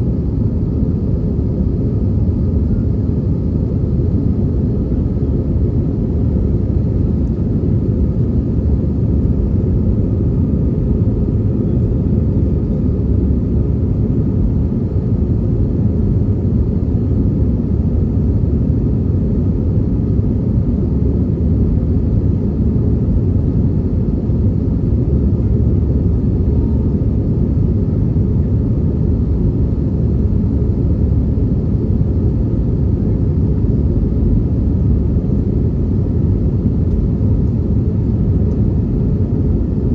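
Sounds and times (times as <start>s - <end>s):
airplane engines rumbling in cabin: 0.0s - 39.9s.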